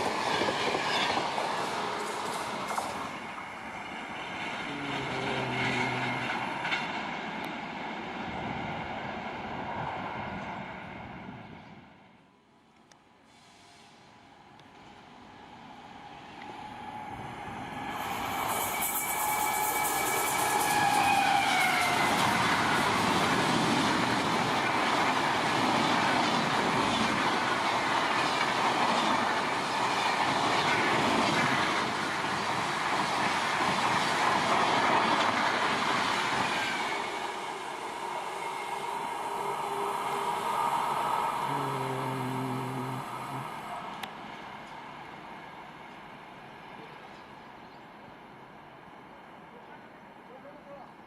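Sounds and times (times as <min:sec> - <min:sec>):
train coaches rushing on rails: 0:00.0 - 0:12.0, 0:13.6 - 0:50.2.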